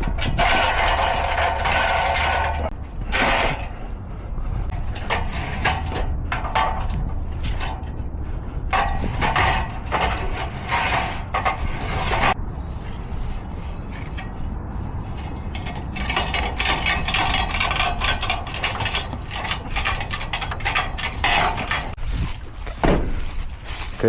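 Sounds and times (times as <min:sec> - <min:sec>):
mechanical clattering and rattling: 0:00.0 - 0:24.0
steady low rumble: 0:00.0 - 0:24.0.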